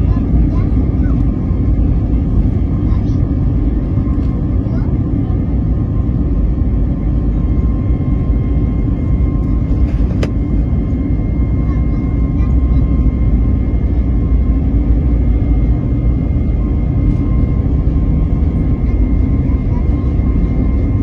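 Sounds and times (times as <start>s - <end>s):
jet engine cabin rumble: 0.0s - 21.0s.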